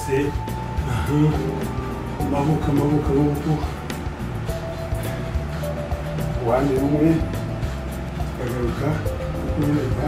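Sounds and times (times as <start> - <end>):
music with beat and bass: 0.0 - 10.0.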